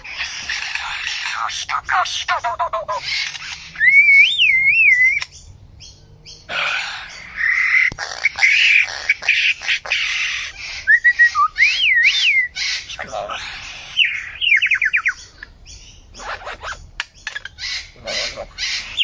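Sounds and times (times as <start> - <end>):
bird whistling and calling: 0.0 - 19.0.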